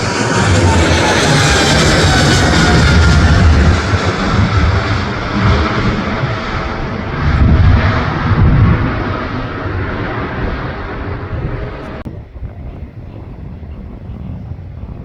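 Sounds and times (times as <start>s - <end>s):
jet airliner taking off: 0.0s - 15.0s.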